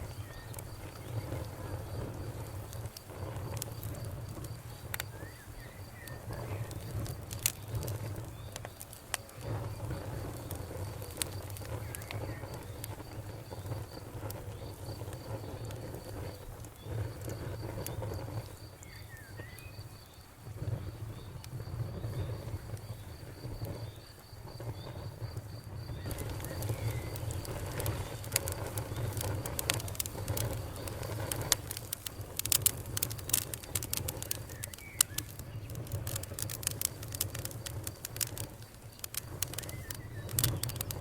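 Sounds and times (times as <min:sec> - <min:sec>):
cricket chirping: 0:00.0 - 0:41.0
fire crackling and popping: 0:00.0 - 0:41.0.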